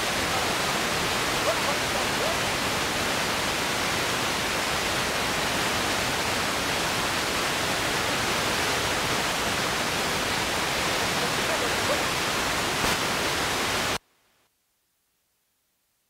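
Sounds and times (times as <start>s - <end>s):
steady static hiss: 0.0s - 16.0s.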